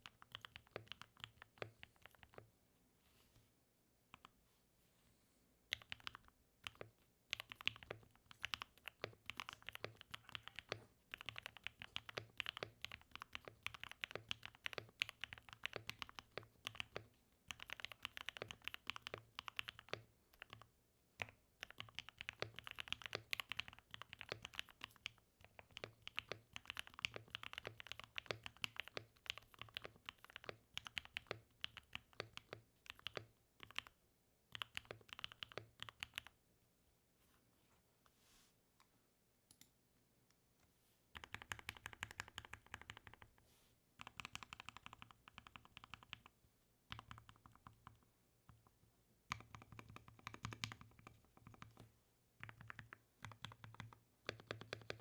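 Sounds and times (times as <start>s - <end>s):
typing on mechanical keyboard: 0.0s - 2.5s, 5.7s - 36.4s, 41.2s - 43.4s, 44.0s - 46.3s, 46.9s - 48.0s, 49.3s - 55.0s.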